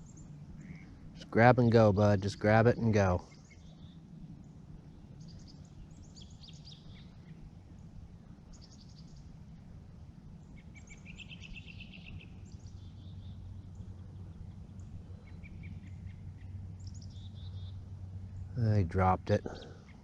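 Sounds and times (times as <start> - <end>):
low outdoor rumble: 0.0 - 20.0
songbirds chirping and trilling: 0.0 - 20.0.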